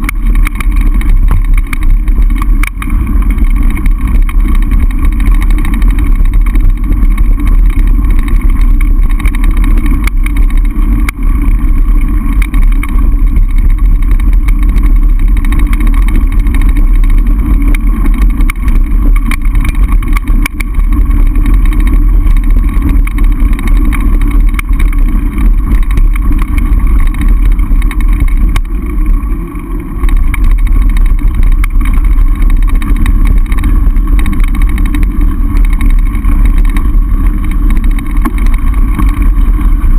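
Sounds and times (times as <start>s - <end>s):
bike knocking over rough ground: 0.0s - 39.9s.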